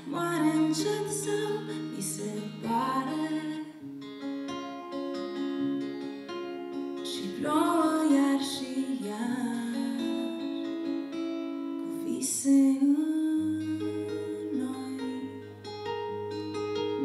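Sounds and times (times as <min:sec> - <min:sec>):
woman singing folk song: 0:00.0 - 0:04.5, 0:06.7 - 0:17.0
plucked acoustic guitar: 0:00.0 - 0:17.0.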